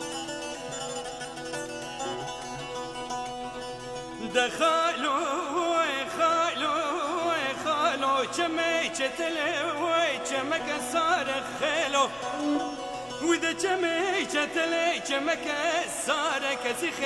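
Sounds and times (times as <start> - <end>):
man singing ornamented melody: 0.0 - 17.0.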